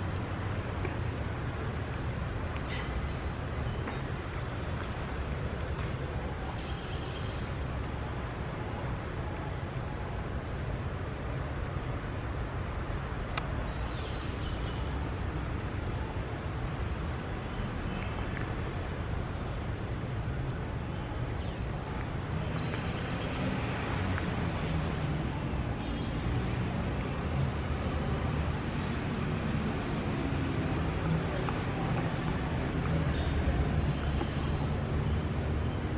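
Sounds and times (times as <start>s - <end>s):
distant traffic rumble: 0.0s - 35.9s.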